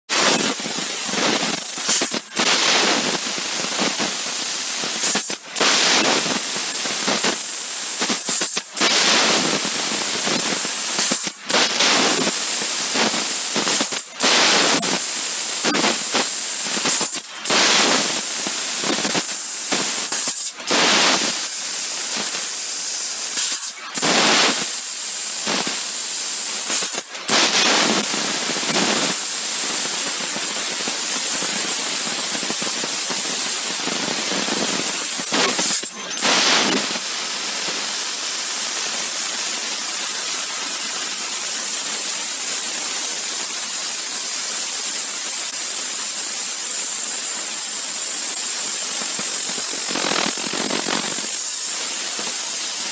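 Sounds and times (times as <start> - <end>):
laser cutter gas hiss: 0.1 - 52.9.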